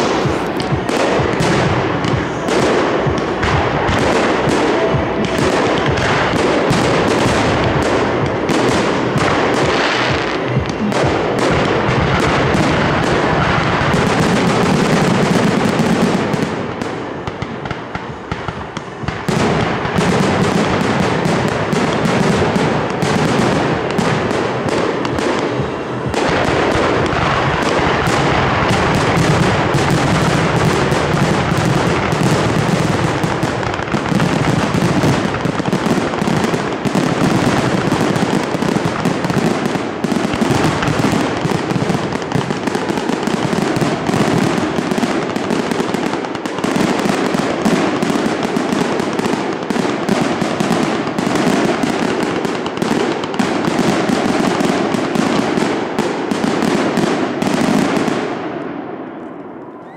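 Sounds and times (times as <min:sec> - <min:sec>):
fireworks banging and crackling: 0:00.0 - 0:59.9.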